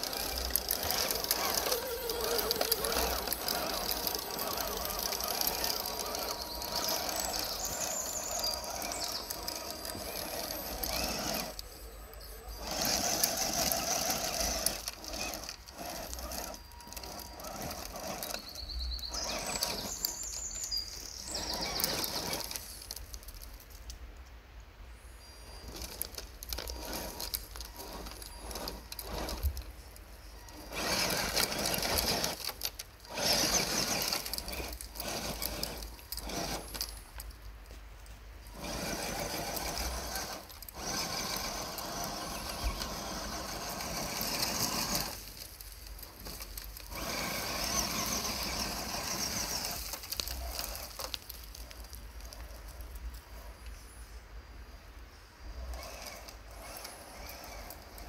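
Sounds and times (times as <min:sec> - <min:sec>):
toy car electric motor and gearbox: 0:00.0 - 0:24.1, 0:25.2 - 0:54.3, 0:54.9 - 0:58.0.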